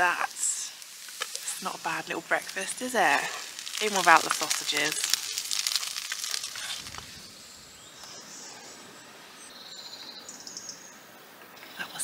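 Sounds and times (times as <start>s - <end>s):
insect chirping: 0.0s - 12.0s
soft outdoor hiss: 0.0s - 12.0s.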